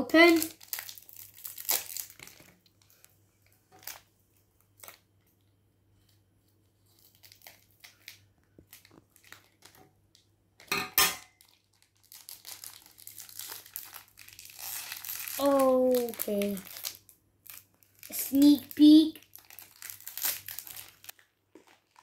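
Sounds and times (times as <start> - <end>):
plastic wrapping crinkling: 0.2 - 10.3, 11.3 - 22.0.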